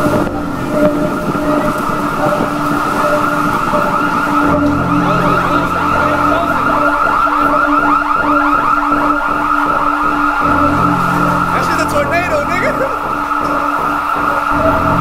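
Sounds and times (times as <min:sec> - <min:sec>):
wind whistling through door gaps: 0:00.0 - 0:15.0.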